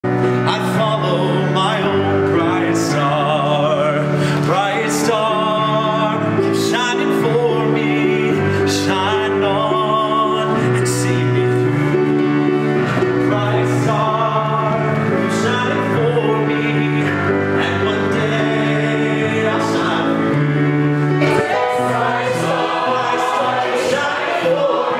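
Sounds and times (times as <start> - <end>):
instrumental backing: 0.0 - 24.9
people singing with vibrato: 0.1 - 24.9.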